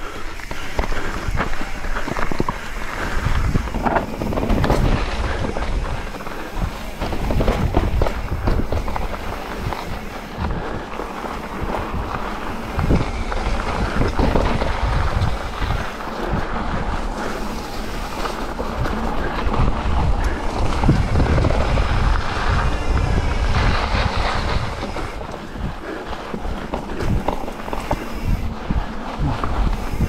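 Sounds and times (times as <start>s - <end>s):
tyres rumbling on rocky trail: 0.0s - 30.0s
wind buffeting microphone: 0.0s - 30.0s
bike knocks and rattles: 0.4s - 30.0s.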